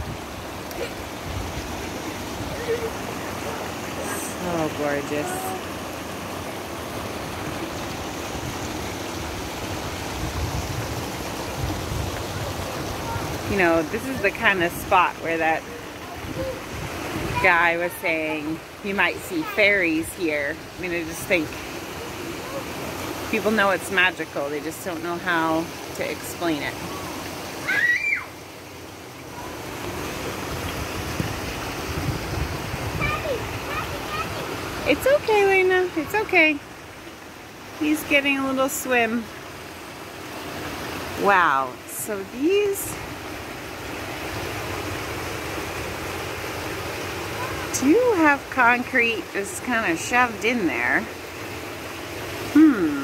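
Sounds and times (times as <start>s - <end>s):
brook water rushing over rocks: 0.0s - 53.0s.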